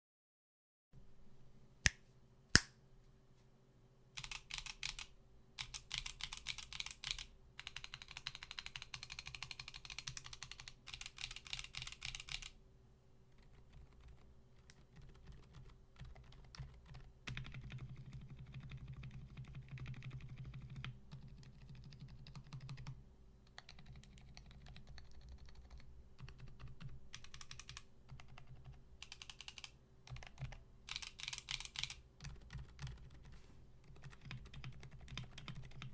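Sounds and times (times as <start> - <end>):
faint steady hum: 1.0 - 35.9
quiet keyboard keystrokes: 4.2 - 12.5, 13.4 - 35.9.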